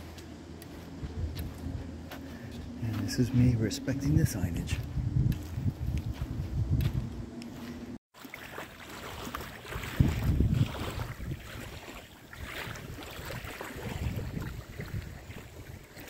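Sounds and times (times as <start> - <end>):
wind buffeting microphone: 0.0 - 8.0, 9.2 - 16.0.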